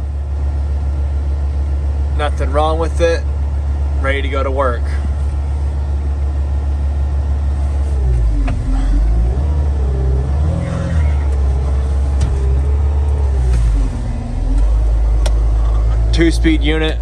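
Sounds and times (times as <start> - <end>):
diesel engine rumble with whine: 0.0 - 17.0.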